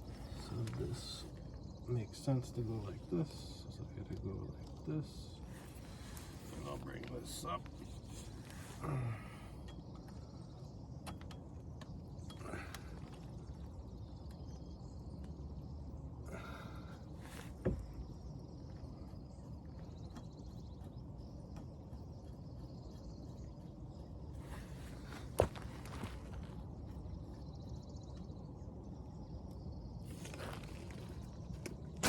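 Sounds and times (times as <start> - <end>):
low background hum: 0.0 - 32.0.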